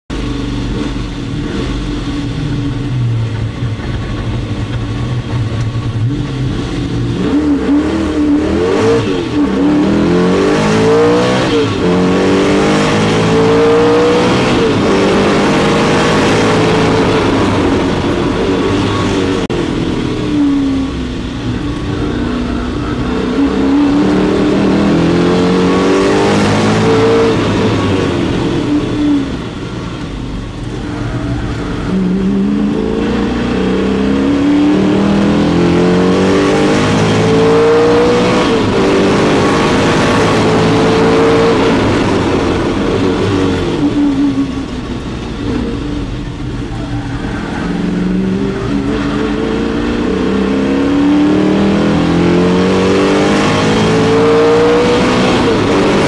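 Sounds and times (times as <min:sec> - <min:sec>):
car engine accelerating hard: 0:00.1 - 0:56.0.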